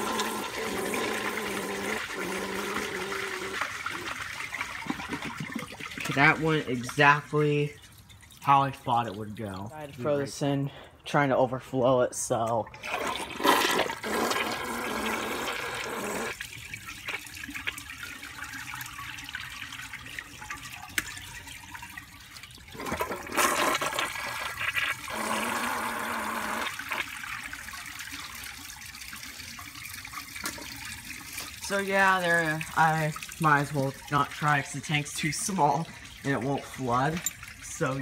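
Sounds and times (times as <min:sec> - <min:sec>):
toilet flushing: 0:00.0 - 0:07.4, 0:12.7 - 0:38.0
water running steadily: 0:00.0 - 0:11.2, 0:12.1 - 0:38.0.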